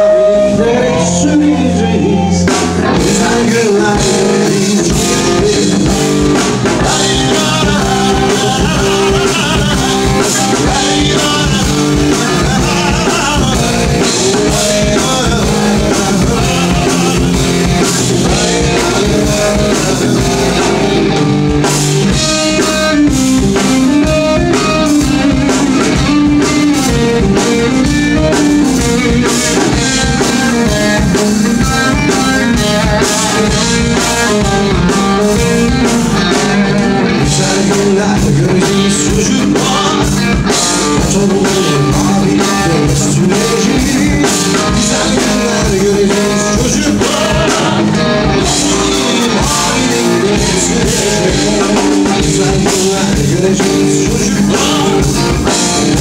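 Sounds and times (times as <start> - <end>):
live blues rock band: 0.0 - 56.0
man singing: 0.0 - 56.0.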